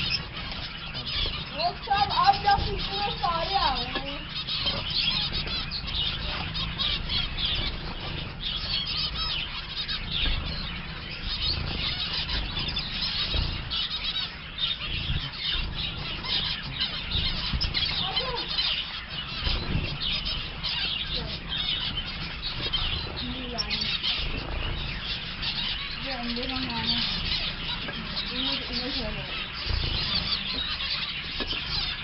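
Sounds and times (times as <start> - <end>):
finches calling: 0.0 - 32.0
wings fluttering: 0.0 - 32.0.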